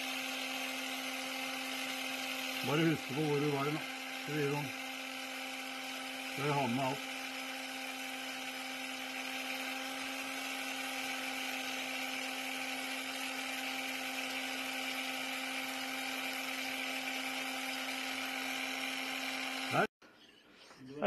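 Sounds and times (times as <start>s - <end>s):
power scraper motor hum: 0.0s - 19.9s.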